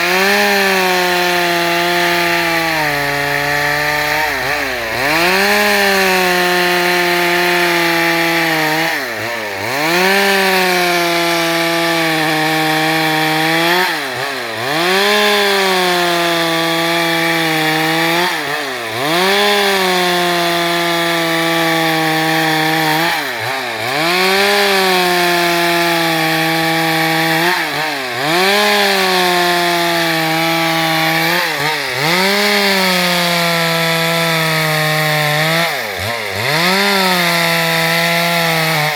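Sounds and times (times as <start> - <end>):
chainsaw sawing wood: 0.0 - 38.9.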